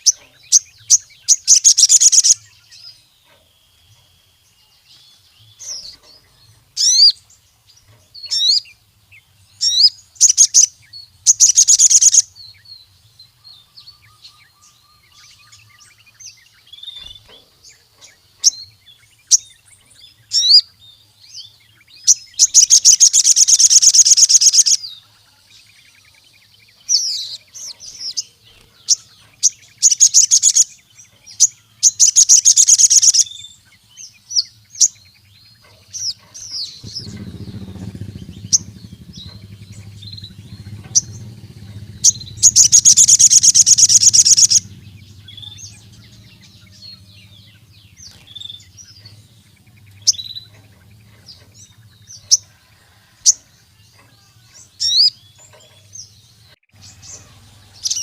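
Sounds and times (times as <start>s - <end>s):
bird chirping and trilling: 0.0s - 58.0s.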